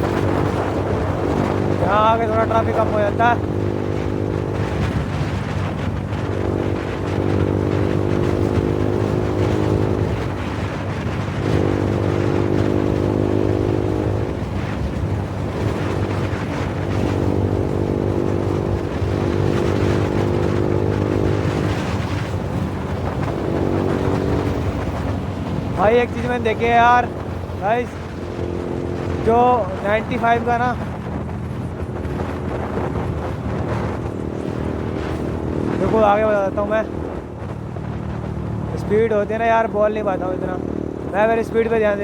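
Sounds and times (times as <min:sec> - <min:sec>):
motorcycle engine revving: 0:00.0 - 0:42.0
wind noise: 0:00.0 - 0:42.0.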